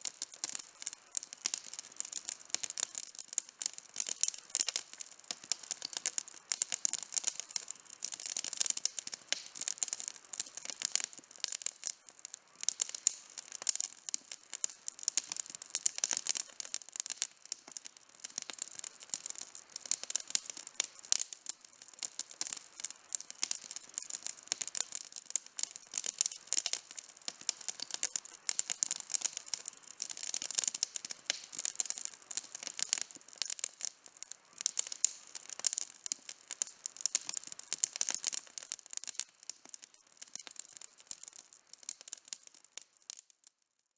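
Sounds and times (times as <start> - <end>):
campfire crackling: 0.0 - 43.2.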